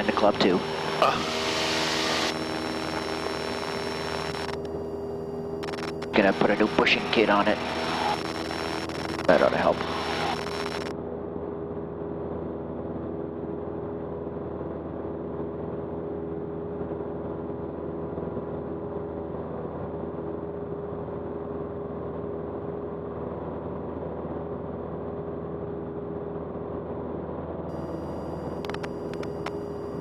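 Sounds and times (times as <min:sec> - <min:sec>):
propeller aircraft engine droning: 0:00.0 - 0:30.0.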